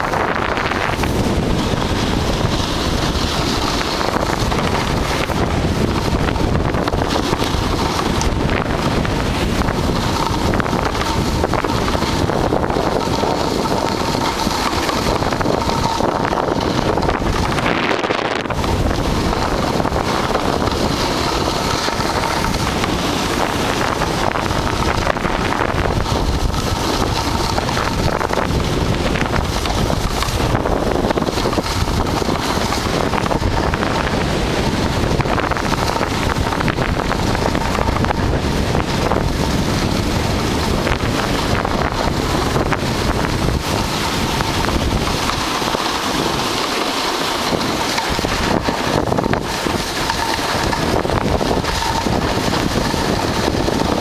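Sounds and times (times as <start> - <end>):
snowboard scraping on snow: 0.0 - 54.0
wind buffeting microphone: 0.0 - 54.0.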